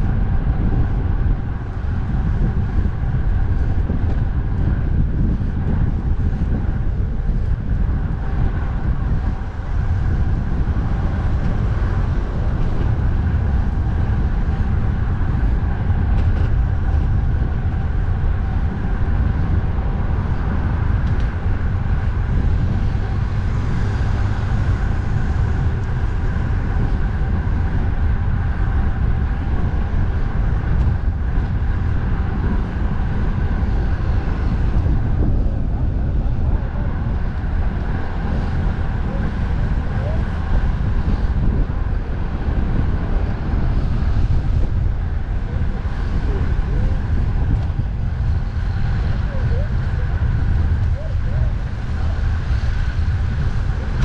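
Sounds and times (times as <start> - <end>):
road traffic noise: 0.0 - 54.0
wind buffeting microphone: 0.0 - 54.0.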